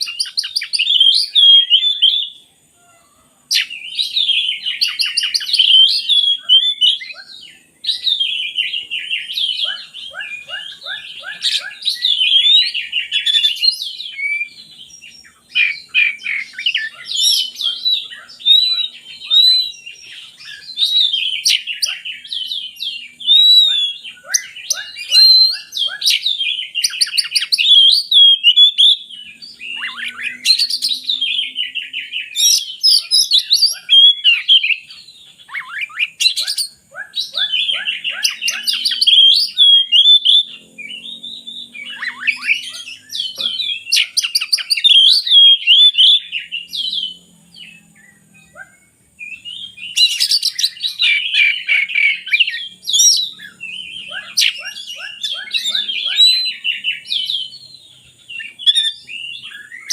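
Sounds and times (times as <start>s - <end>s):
songbird singing whistles and trills: 0.0s - 59.9s.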